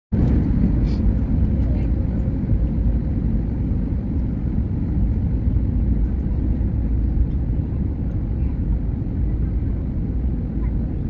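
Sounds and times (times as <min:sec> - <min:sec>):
jet airliner rumble: 0:00.1 - 0:11.0.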